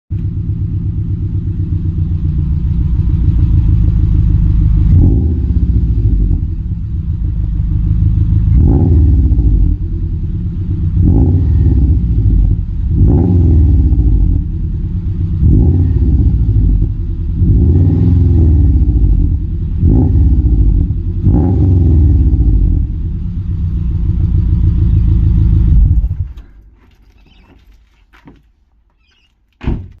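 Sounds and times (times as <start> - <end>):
engine throttle blips: 0.1 - 27.4
car engine idling: 0.1 - 28.3.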